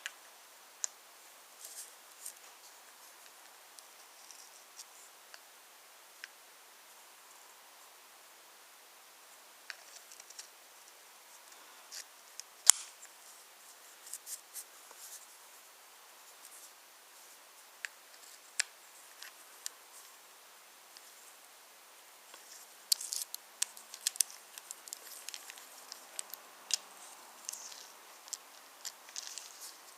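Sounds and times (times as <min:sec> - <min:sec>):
faint hiss: 0:00.0 - 0:29.9.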